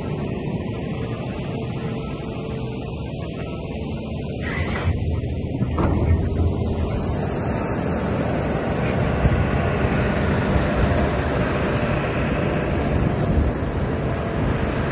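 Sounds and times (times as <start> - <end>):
excavator diesel engine running: 0.0 - 14.9.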